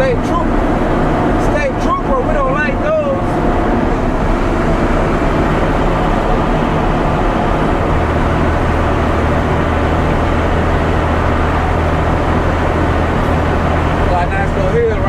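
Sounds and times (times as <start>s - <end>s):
road noise: 0.0s - 15.0s
truck diesel engine from cab: 0.0s - 15.0s.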